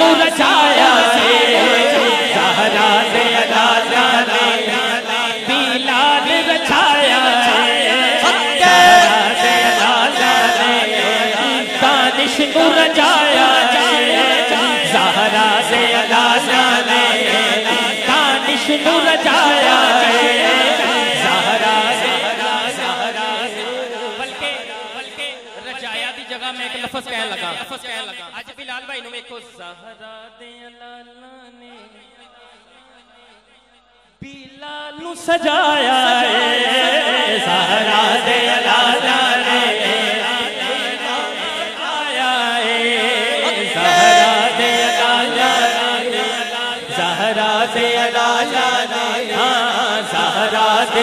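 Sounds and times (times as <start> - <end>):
men chanting into a microphone: 0.0 - 33.4, 34.2 - 51.0.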